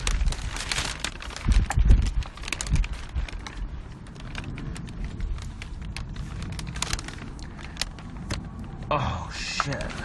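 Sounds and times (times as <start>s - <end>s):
small sharp clicks and rattles: 0.0s - 8.8s.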